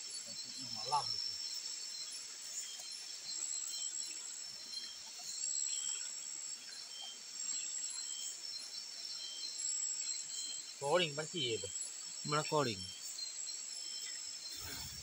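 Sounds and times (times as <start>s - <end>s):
insect chirp: 0.0s - 15.0s
insects buzzing: 0.0s - 15.0s.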